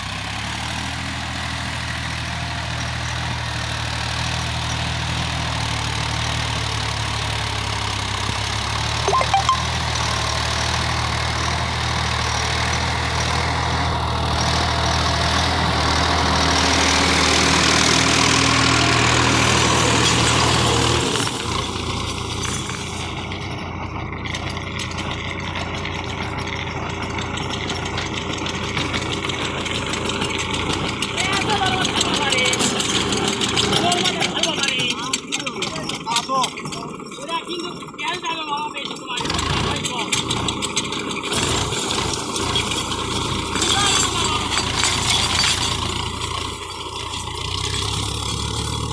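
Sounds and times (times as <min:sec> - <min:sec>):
tractor diesel engine droning: 0:00.0 - 0:48.9
lighter noisier engine: 0:09.6 - 0:48.9.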